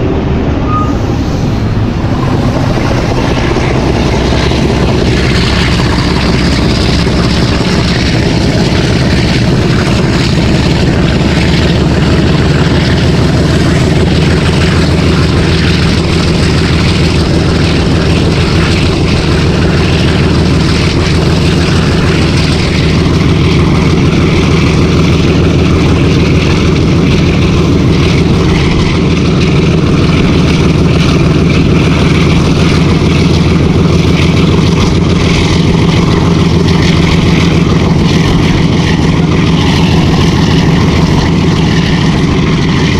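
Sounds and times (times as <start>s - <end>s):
diesel locomotive engine chugging: 0.0s - 42.9s.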